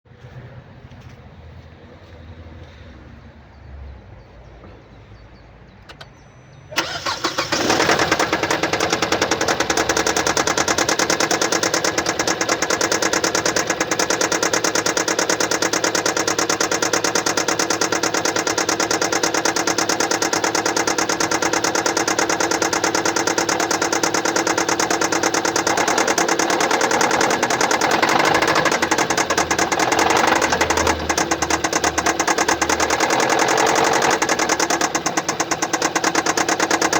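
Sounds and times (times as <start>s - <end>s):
engine idling with ticking clatter: 4.2s - 36.9s
car engine starting: 5.7s - 36.9s.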